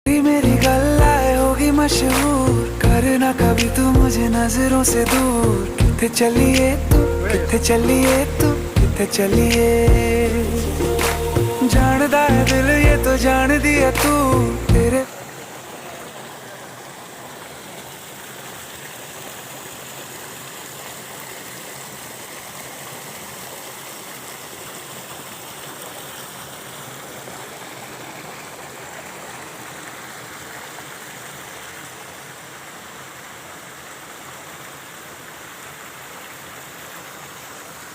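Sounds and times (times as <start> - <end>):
flowing water rushing: 0.1 - 37.9.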